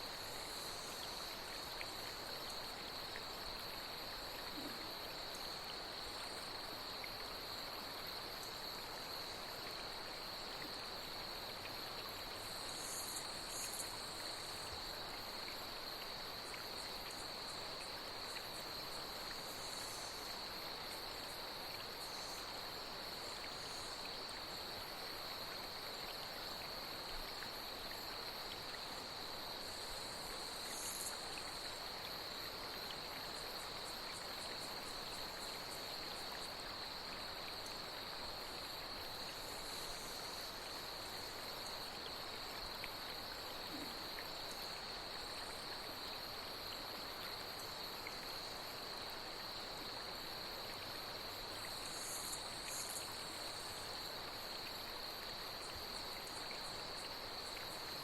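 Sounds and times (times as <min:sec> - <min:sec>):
night insects droning: 0:00.0 - 0:58.0.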